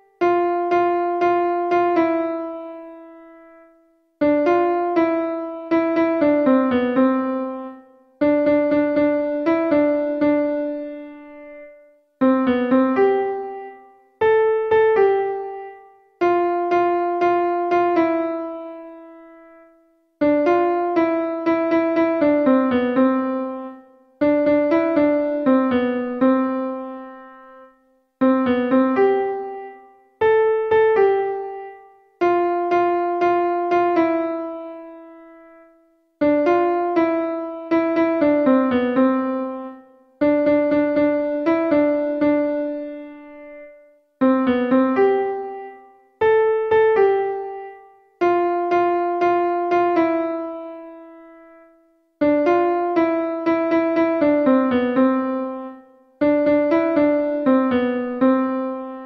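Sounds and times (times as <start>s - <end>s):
piano melody: 0.0s - 59.0s.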